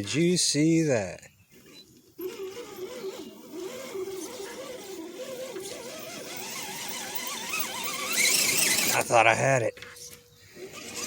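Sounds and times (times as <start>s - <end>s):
electric motor and gears whining: 1.5s - 11.0s.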